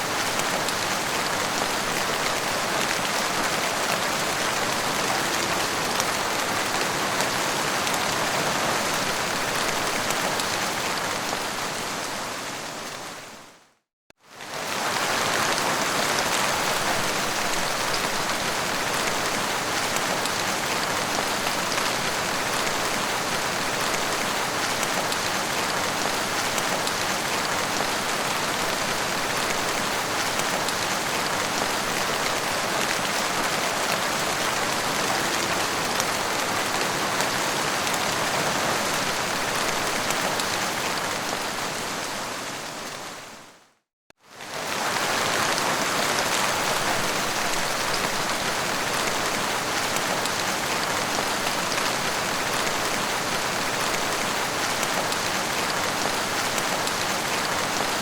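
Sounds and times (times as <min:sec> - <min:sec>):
heavy rain falling: 0:00.0 - 0:13.3, 0:14.4 - 0:43.4, 0:44.3 - 0:58.0.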